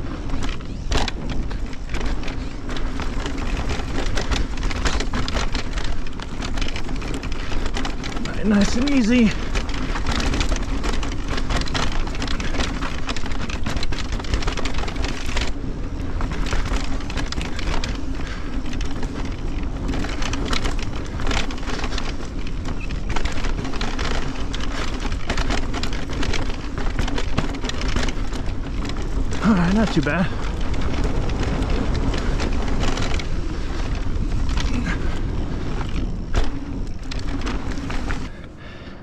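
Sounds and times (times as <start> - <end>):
tyre rumble on dirt: 0.0 - 38.7
bike rattling and knocking: 0.0 - 39.0
wind buffeting: 0.0 - 39.0.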